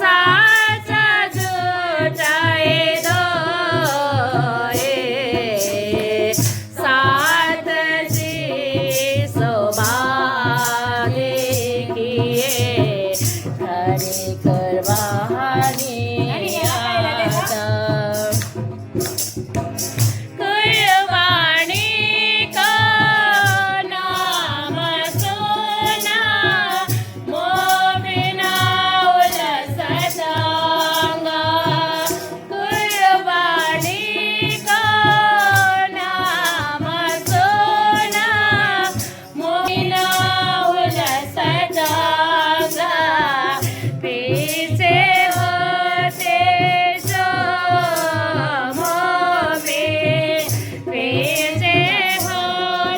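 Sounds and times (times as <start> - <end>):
group singing devotional song: 0.0 - 18.7, 20.0 - 52.9
small percussion beat: 0.0 - 52.9.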